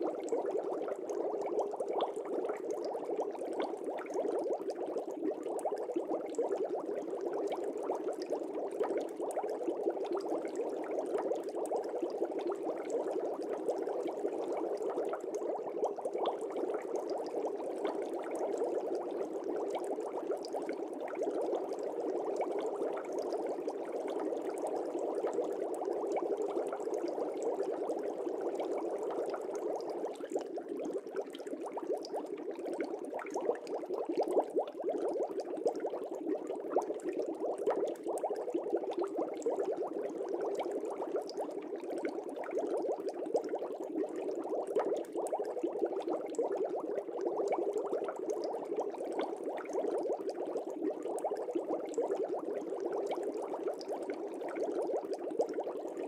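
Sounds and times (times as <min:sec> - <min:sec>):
air bubbles in aquarium: 0:00.0 - 0:56.0.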